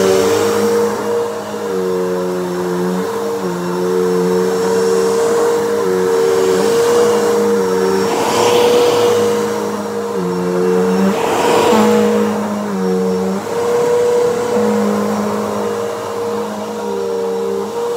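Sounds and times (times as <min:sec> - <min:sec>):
vacuum cleaner running on carpet: 0:00.0 - 0:17.9.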